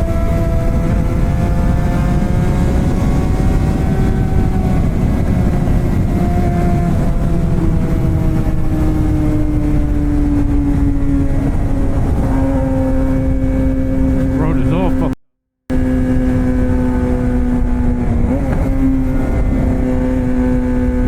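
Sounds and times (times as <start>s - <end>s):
wind and road rumble: 0.0s - 21.0s.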